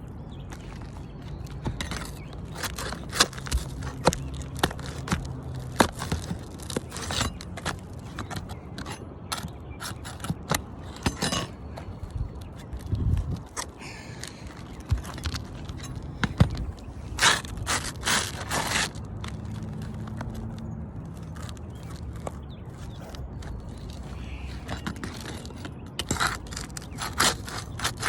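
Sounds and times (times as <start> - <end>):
tool scraping under shingles: 0.4 - 28.0.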